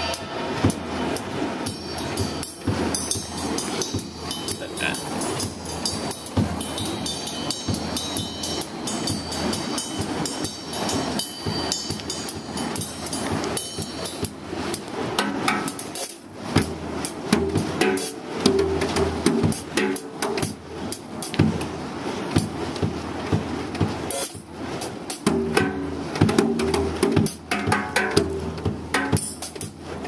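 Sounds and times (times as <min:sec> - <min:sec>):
pitched low drum notes: 0:00.0 - 0:30.0
snare and cymbal hits: 0:00.0 - 0:30.0.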